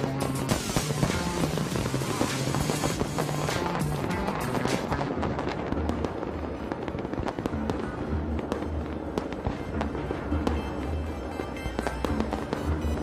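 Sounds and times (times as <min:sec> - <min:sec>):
music with pulsing bass beat: 0:00.0 - 0:06.2, 0:07.4 - 0:13.0
fireworks bursting and crackling: 0:00.0 - 0:13.0.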